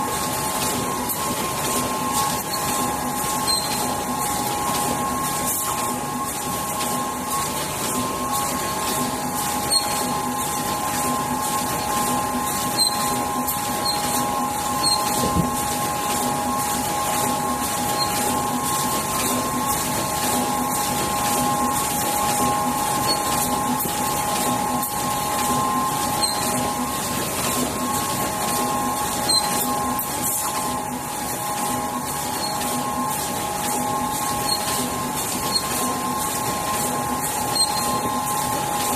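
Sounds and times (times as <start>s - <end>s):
machine whine: 0.0s - 38.9s.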